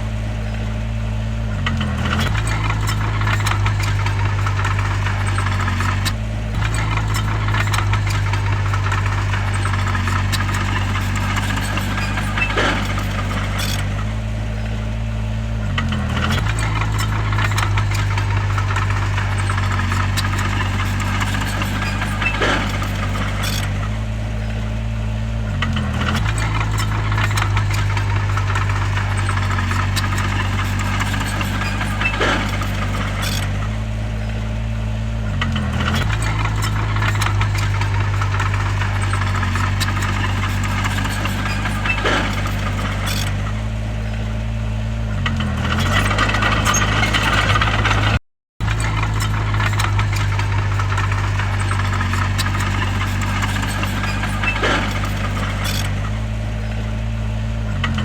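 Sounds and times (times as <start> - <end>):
bulldozer diesel engine: 0.0 - 58.0
rattle: 0.0 - 58.0
sharp squeak or clank: 1.7 - 14.8, 15.8 - 24.6, 25.6 - 34.5, 35.4 - 44.4, 45.3 - 57.0.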